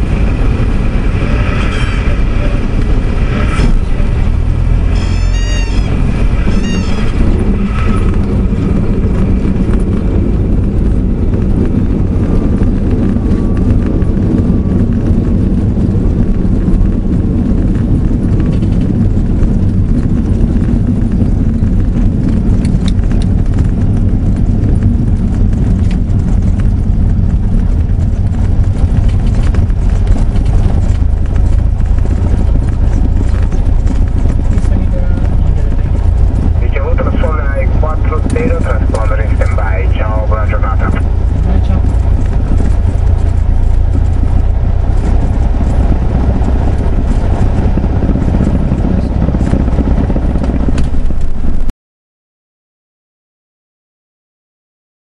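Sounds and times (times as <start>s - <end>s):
propeller plane engine drone: 0.0s - 51.7s.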